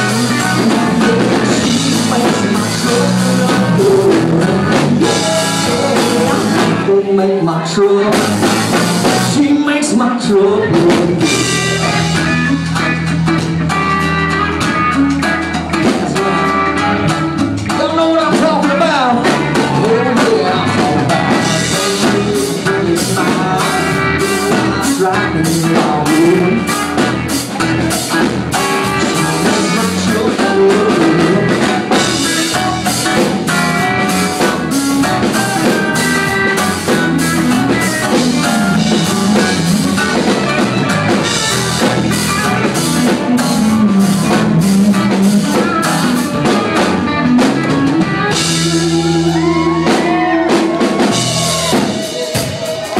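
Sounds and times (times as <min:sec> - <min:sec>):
drum beat: 0:00.0 - 0:06.9, 0:08.1 - 0:09.6, 0:10.8 - 0:52.9
bass guitar: 0:00.0 - 0:52.9
electric guitar lead: 0:00.0 - 0:52.9.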